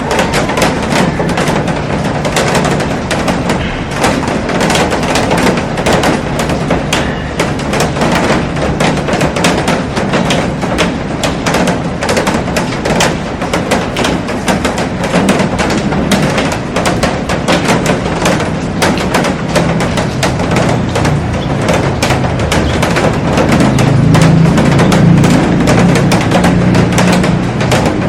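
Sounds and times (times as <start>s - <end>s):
heavy rain on glass roof: 0.0s - 28.0s.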